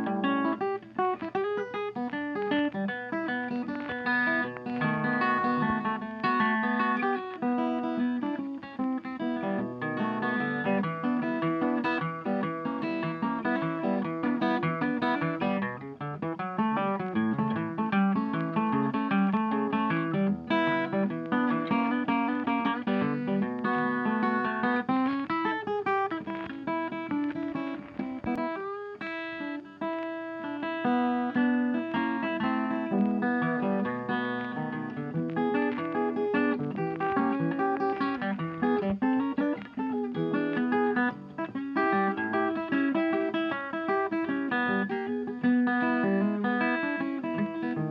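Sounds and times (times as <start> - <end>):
plucked guitar music: 0.0 - 47.9.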